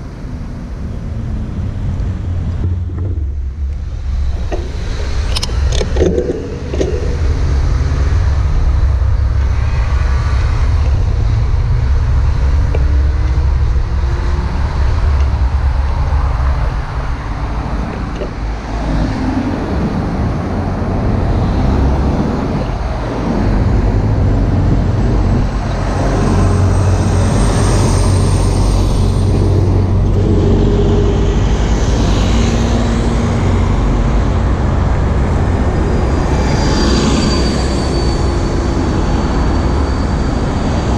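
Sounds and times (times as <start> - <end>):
road traffic passing: 0.0 - 40.9
wind rumbling on microphone: 0.0 - 40.9.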